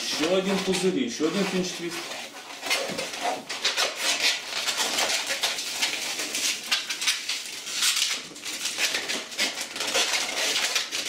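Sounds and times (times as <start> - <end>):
balloon squeaking and rubbing: 0.0 - 11.0.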